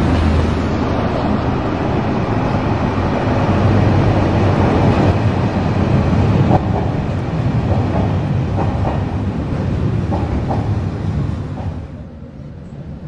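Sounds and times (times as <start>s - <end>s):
deep rumbling noise: 0.0s - 13.0s.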